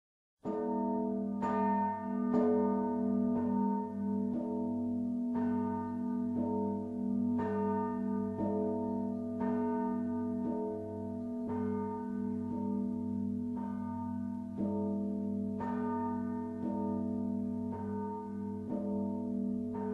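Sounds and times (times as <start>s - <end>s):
church bells ringing: 0.5s - 19.9s.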